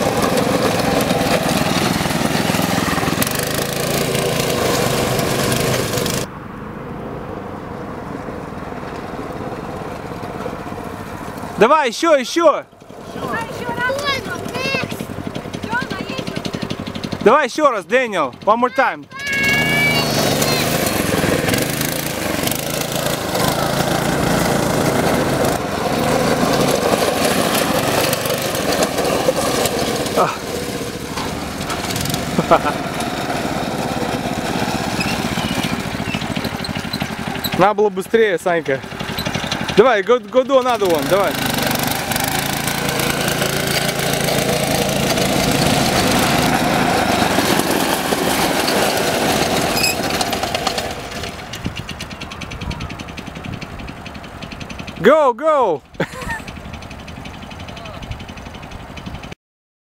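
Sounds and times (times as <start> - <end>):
small engine running under throttle: 0.0 - 6.3, 12.7 - 55.2, 55.8 - 59.4.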